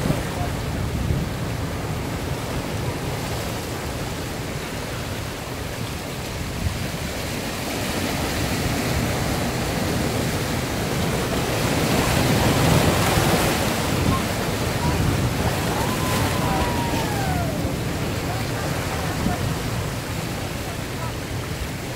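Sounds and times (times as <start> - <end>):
ocean surf washing between rocks: 0.0 - 21.9.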